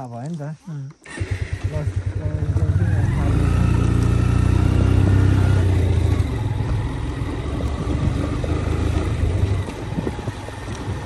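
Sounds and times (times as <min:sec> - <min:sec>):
motorcycle engine rumbling: 0:00.9 - 0:11.0.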